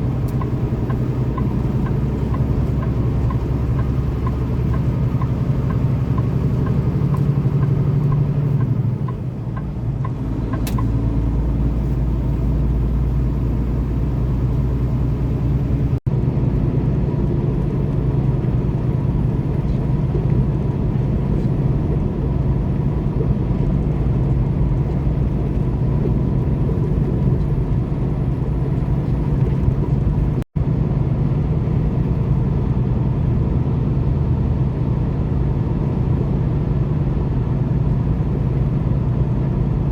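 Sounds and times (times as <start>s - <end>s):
truck diesel engine humming: 0.0s - 34.0s.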